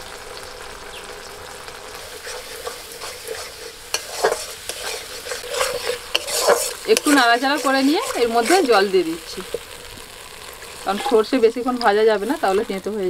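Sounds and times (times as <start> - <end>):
paste sizzling in hot oil: 0.0 - 13.0
metal spatula scraping pan: 2.0 - 12.9.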